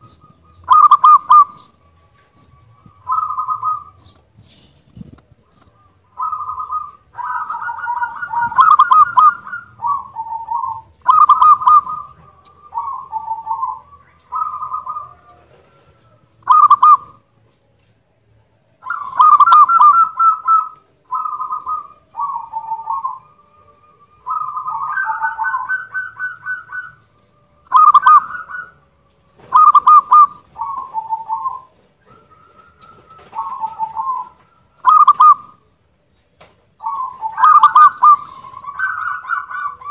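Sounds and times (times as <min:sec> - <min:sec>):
dove cooing: 0:00.0 - 0:17.3, 0:18.3 - 0:35.7, 0:36.8 - 0:39.9.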